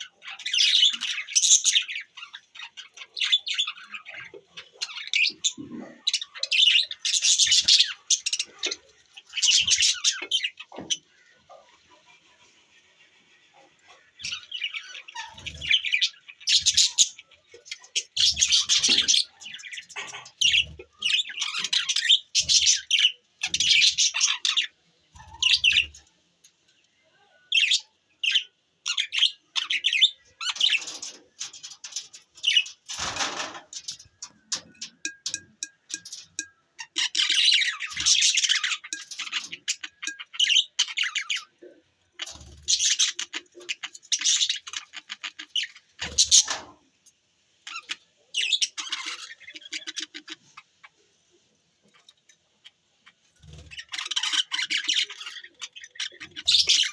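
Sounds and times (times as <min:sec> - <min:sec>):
budgerigars chirping and chattering: 0:00.0 - 0:26.1, 0:27.5 - 0:46.8, 0:47.6 - 0:51.0, 0:51.9 - 0:56.9.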